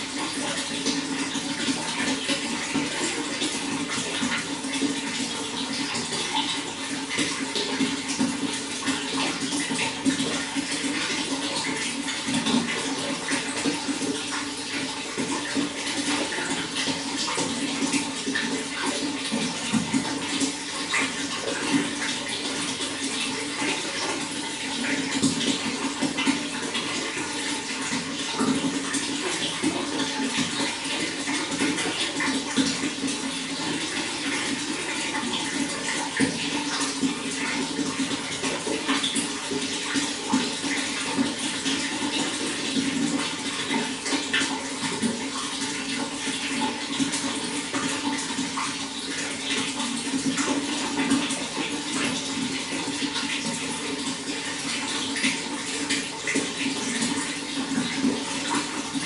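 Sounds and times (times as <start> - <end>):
running water splashing: 0.0 - 59.0.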